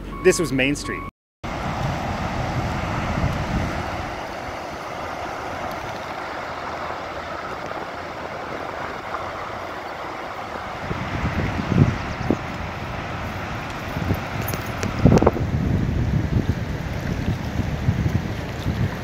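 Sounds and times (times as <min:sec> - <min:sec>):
floodwater rushing: 0:01.4 - 0:19.0
wind buffeting microphone: 0:01.5 - 0:19.0.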